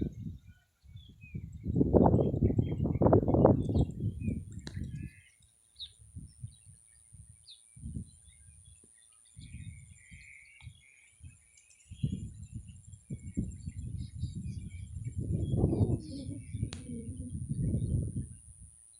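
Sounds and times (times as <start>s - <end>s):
wind buffeting the microphone: 0.0s - 5.2s, 5.8s - 18.8s
birds chirping: 0.0s - 18.6s.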